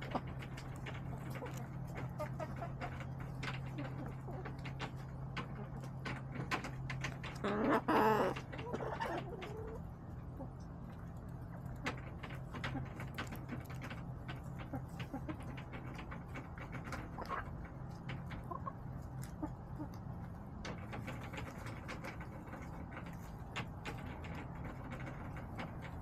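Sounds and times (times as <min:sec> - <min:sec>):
hens clucking: 0:00.0 - 0:26.0
steady low hum: 0:00.0 - 0:26.0.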